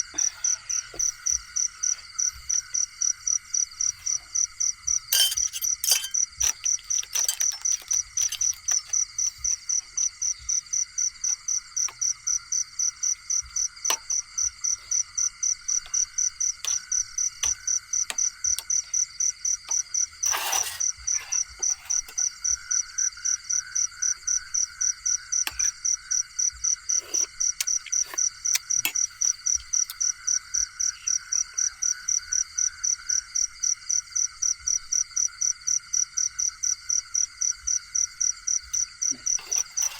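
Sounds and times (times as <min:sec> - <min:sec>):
insect chirping: 0:00.0 - 0:39.9
insect trills: 0:00.0 - 0:39.9.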